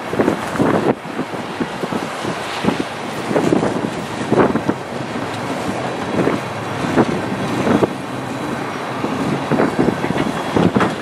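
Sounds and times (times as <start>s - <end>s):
wind buffeting microphone: 0.0s - 11.0s
steel wheels rumbling on rail: 1.6s - 11.0s.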